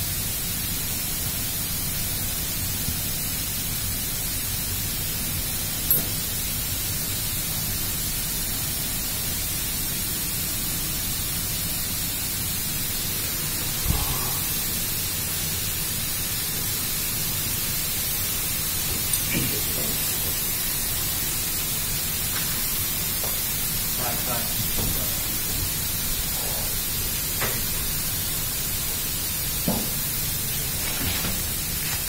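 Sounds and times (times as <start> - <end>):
loud broadband hiss: 0.0 - 32.0.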